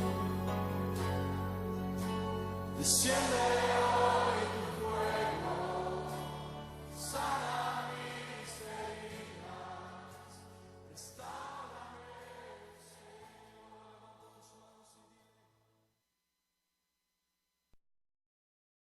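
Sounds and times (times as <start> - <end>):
choir singing worship music: 0.0 - 15.3.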